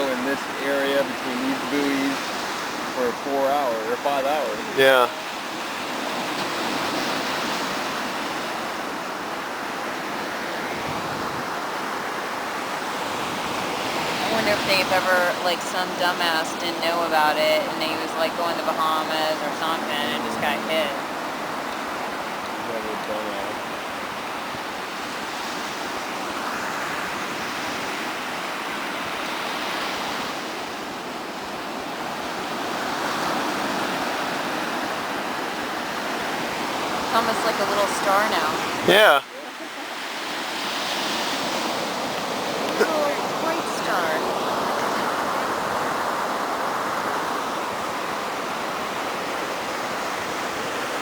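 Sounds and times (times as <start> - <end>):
ocean surf on beach: 0.0 - 51.0.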